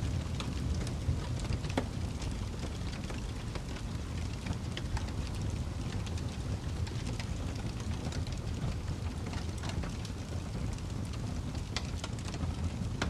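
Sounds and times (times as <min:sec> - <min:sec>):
fire crackling and popping: 0:00.0 - 0:13.0
low rumble of burning logs: 0:00.0 - 0:13.0.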